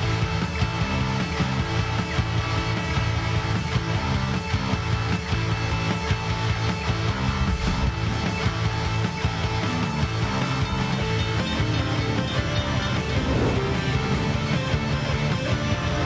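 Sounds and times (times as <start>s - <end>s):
rock music with guitar: 0.0s - 16.0s.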